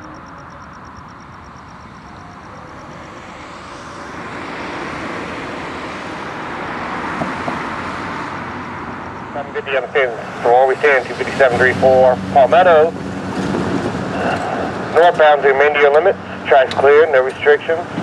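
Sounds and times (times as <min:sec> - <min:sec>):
rushing vehicle noise: 0:00.0 - 0:18.0.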